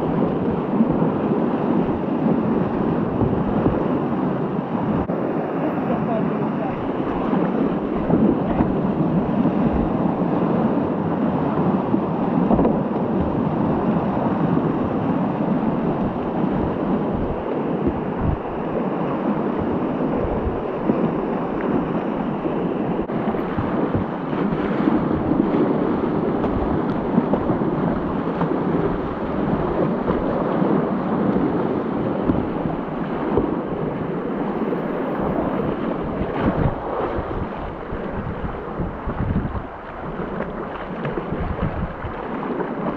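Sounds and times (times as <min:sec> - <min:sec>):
whitewater rapids rushing: 0:00.0 - 0:42.9
wind rumbling on microphone: 0:00.0 - 0:42.9.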